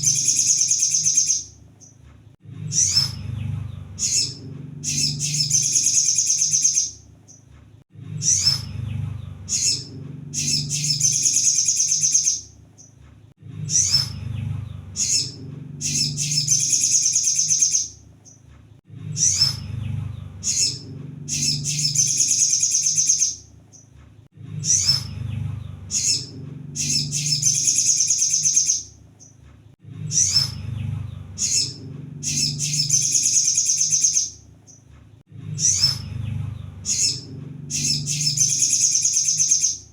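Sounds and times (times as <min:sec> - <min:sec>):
sunbird singing: 0:00.0 - 0:02.0, 0:02.7 - 0:07.4, 0:08.2 - 0:13.0, 0:13.6 - 0:18.4, 0:19.1 - 0:23.9, 0:24.6 - 0:29.4, 0:30.1 - 0:34.8, 0:35.6 - 0:39.9
low hum: 0:02.4 - 0:22.6, 0:23.4 - 0:39.6.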